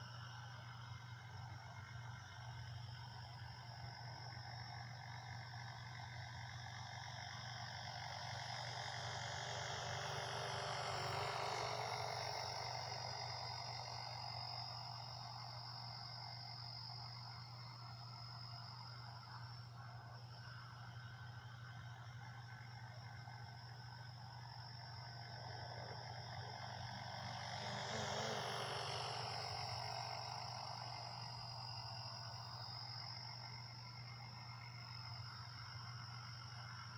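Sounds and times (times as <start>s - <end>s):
rc helicopter motor whine: 0.0s - 36.9s.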